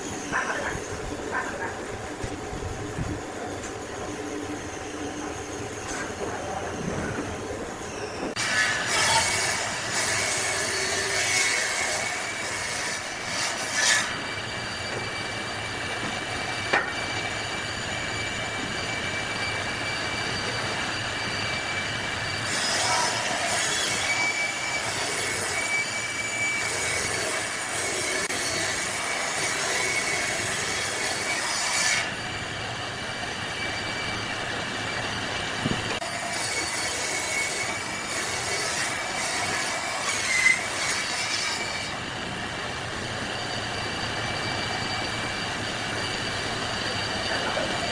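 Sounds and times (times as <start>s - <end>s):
power tool whining: 0.0s - 47.9s.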